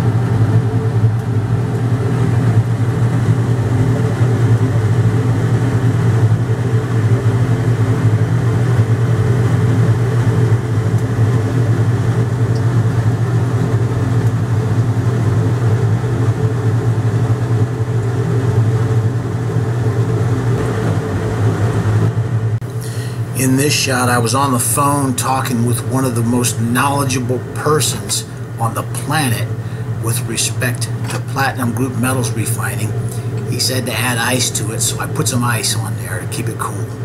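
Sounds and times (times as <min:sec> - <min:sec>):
ventilation fan humming: 0:00.0 - 0:37.0.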